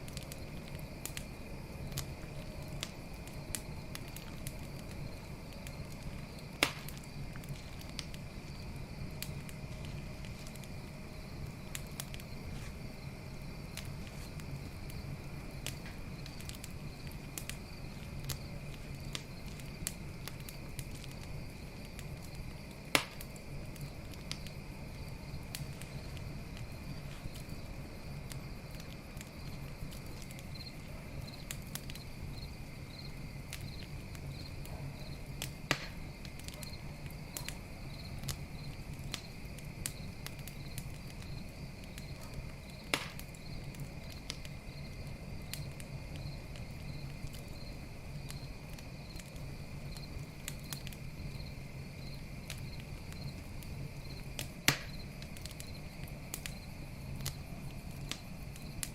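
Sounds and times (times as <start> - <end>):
campfire crackling and popping: 0.0 - 58.9
crickets chirping: 0.0 - 58.9.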